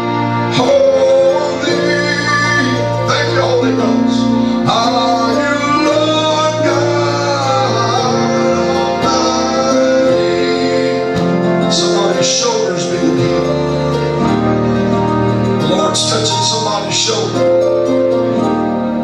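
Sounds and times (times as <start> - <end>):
worship singing: 0.0 - 18.6
sustained instrumental accompaniment: 0.0 - 19.0.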